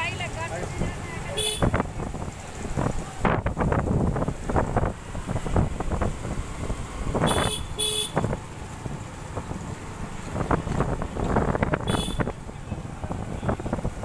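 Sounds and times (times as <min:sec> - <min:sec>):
gusty wind on microphone: 0:00.7 - 0:14.0.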